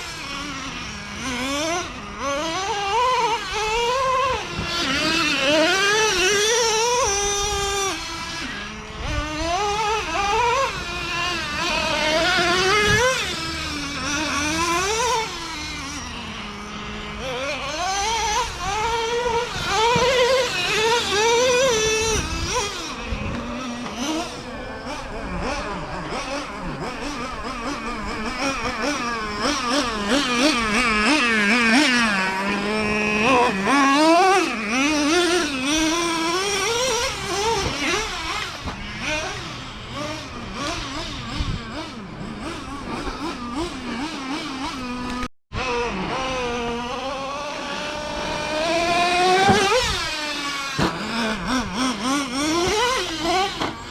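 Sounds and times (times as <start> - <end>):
nitro engine revving: 0.0 - 53.9.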